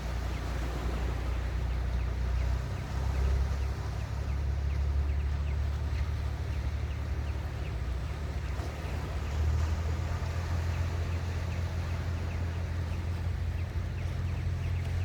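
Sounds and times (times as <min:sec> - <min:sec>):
low rumble of sea waves: 0:00.0 - 0:15.0
small birds chirping: 0:01.2 - 0:15.0.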